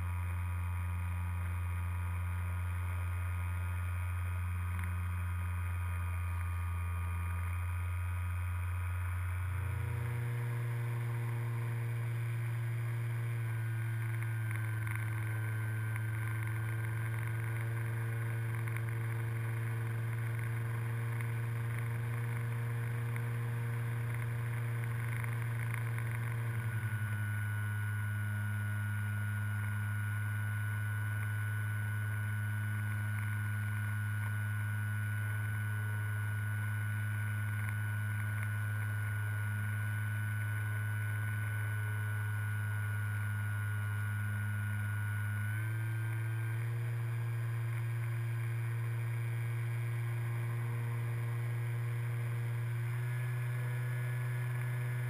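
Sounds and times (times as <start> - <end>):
electric motor and propeller droning: 3.2 - 55.0.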